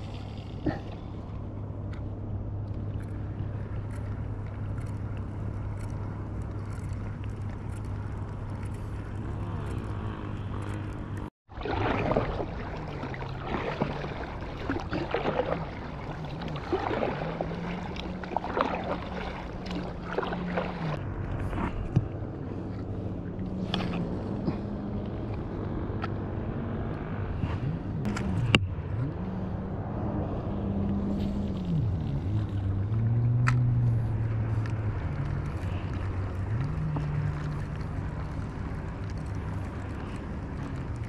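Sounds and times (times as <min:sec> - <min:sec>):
water sloshing and splashing: 0:00.0 - 0:26.2, 0:27.4 - 0:41.0.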